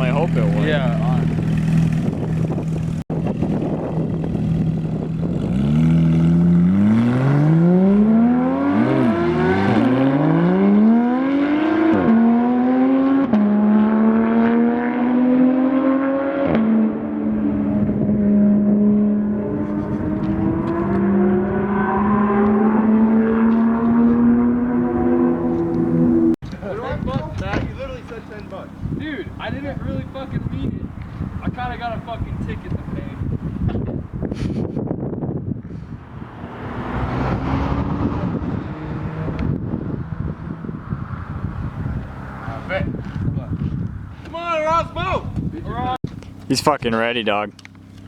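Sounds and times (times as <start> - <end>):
car engine accelerating: 0.0 - 31.5, 35.8 - 44.1.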